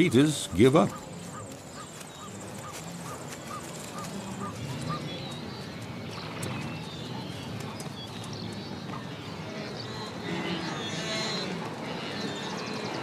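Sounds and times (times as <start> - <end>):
low grunting calls: 0.0 - 13.0.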